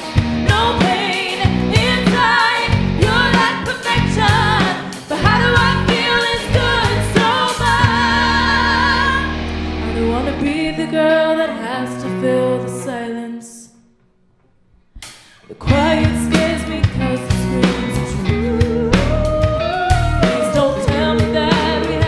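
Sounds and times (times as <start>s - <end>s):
drum kit: 0.0s - 10.9s, 15.0s - 22.0s
bass guitar: 0.0s - 13.0s, 15.0s - 22.0s
electric guitar: 0.0s - 13.4s, 15.2s - 22.0s
woman singing: 0.4s - 13.8s, 15.5s - 22.0s.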